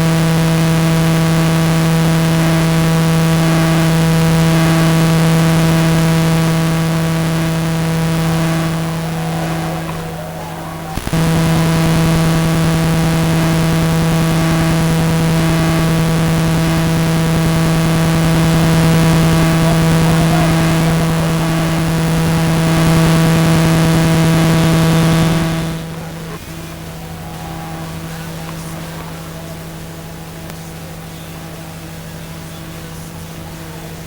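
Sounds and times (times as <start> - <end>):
loud low buzz: 0.0 - 31.2.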